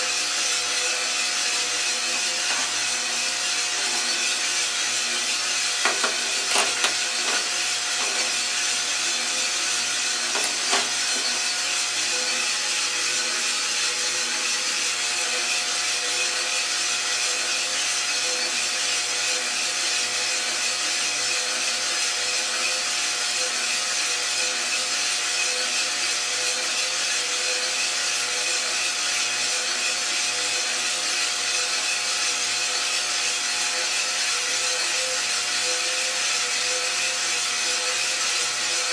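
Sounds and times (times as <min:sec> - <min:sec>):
coffee roaster whirring hum: 0:00.0 - 0:38.9.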